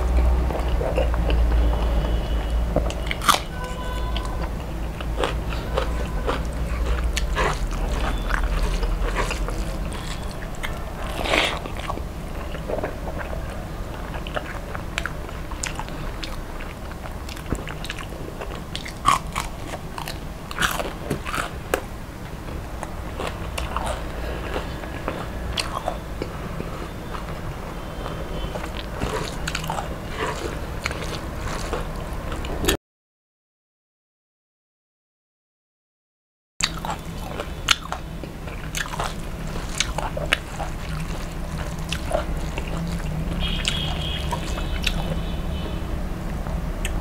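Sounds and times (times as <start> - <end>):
chewing and crunching crispy food: 0.0 - 21.9, 22.5 - 32.8, 36.6 - 47.0.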